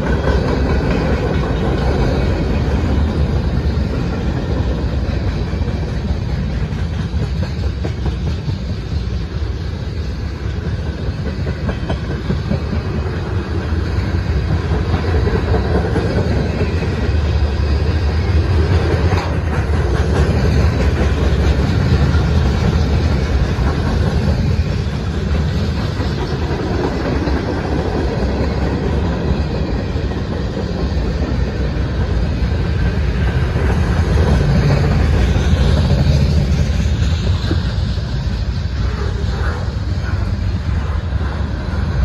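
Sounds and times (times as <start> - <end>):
freight train wheels rolling: 0.0 - 42.0.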